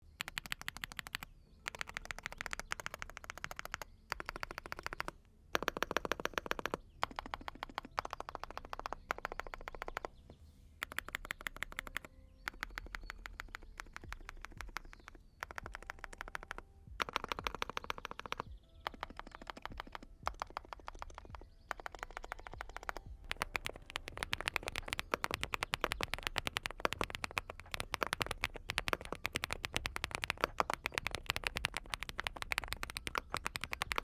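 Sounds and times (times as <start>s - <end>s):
fast mechanical keyboard typing: 0.0s - 10.2s, 10.8s - 34.0s.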